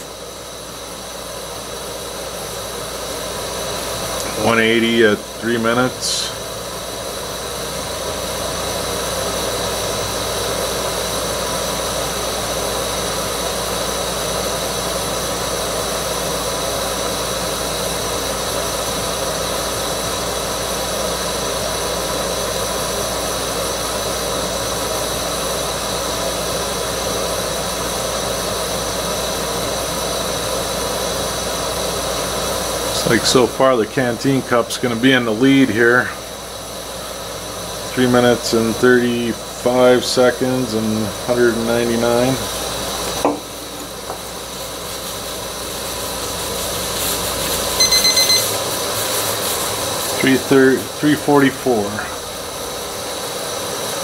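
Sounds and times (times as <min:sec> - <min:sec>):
gas burner running: 0:00.0 - 0:54.0.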